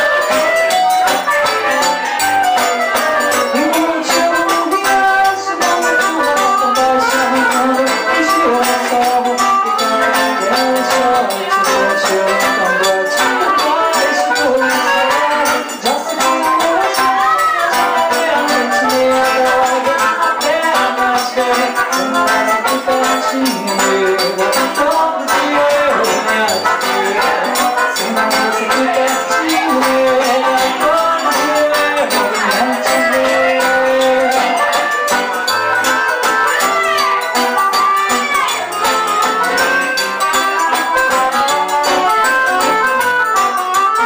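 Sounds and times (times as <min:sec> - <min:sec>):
accordion: 0:00.0 - 0:44.0
guitar: 0:00.0 - 0:44.0
hand percussion shaking: 0:00.0 - 0:44.0.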